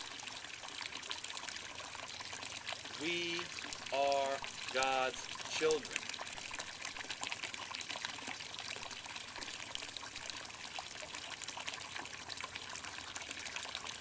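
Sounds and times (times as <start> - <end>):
water pouring and trickling: 0.0 - 14.0.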